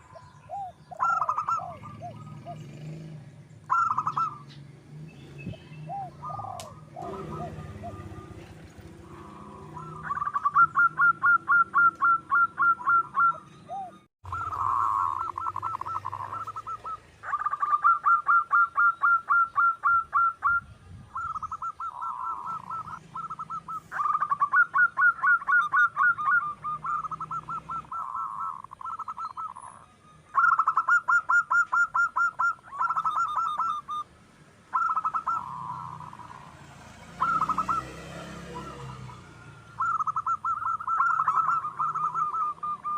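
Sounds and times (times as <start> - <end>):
dove cooing: 0.0 - 4.6, 5.5 - 34.1, 34.7 - 42.9.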